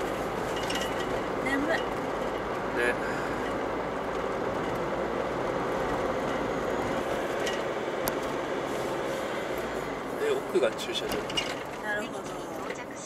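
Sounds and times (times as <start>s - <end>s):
road and engine noise: 0.0s - 13.0s.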